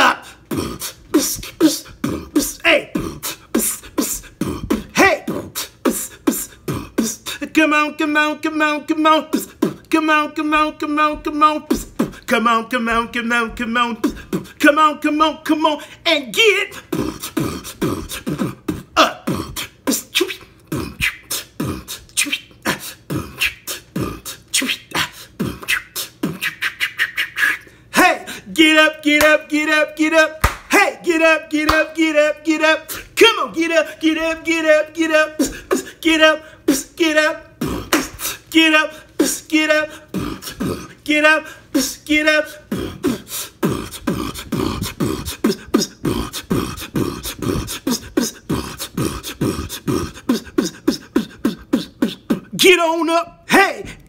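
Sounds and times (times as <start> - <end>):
man beatboxing: 0.0 - 54.0.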